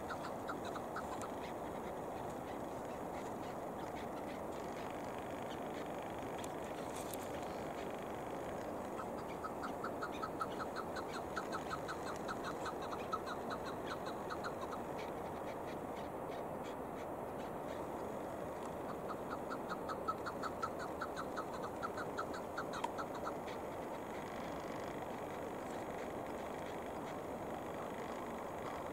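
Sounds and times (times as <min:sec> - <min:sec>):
background hiss: 0:00.0 - 0:28.9.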